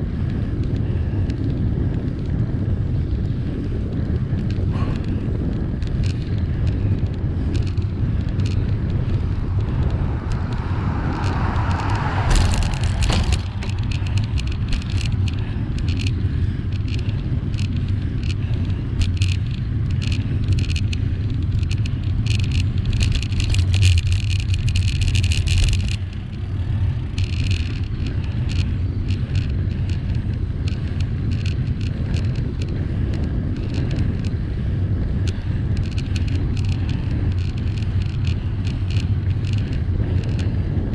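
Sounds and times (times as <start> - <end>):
bicycle rattling clicks: 0.0 - 40.9
wind and road rumble: 0.0 - 40.9.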